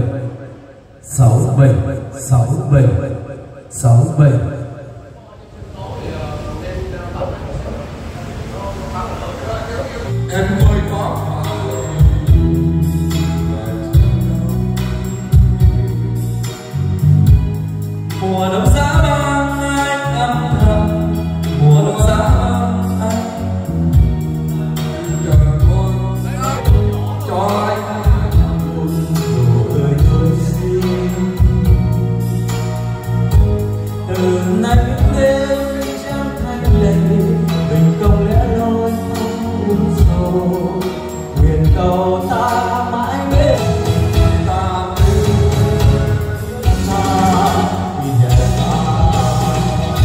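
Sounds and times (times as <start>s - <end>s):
backing track with heavy bass: 0.0s - 50.0s
man singing karaoke: 0.0s - 50.0s.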